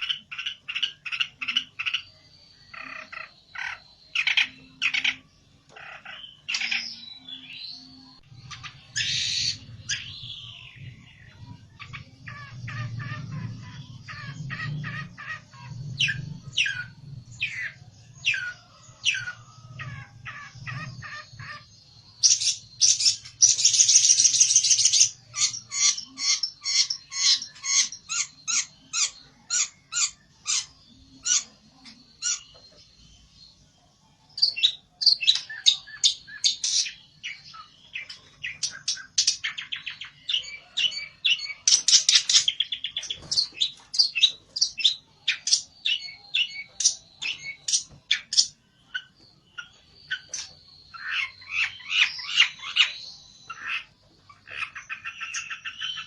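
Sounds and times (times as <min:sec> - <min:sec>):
songbird sharp chirping song: 0:00.0 - 0:56.0.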